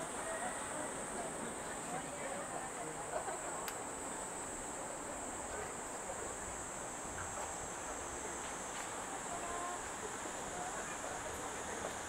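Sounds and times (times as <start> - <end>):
murmur of voices: 0.0 - 12.0.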